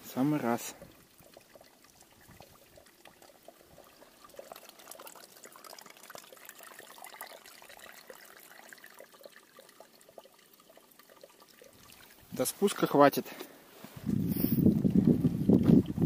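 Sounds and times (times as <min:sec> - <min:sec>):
stream trickling and splashing: 0:00.0 - 0:16.0.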